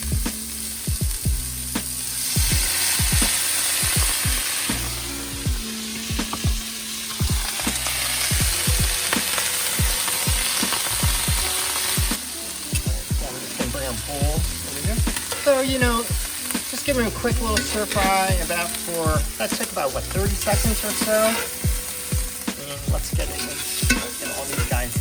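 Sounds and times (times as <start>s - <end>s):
vegetables sizzling in a skillet: 0.0s - 25.0s.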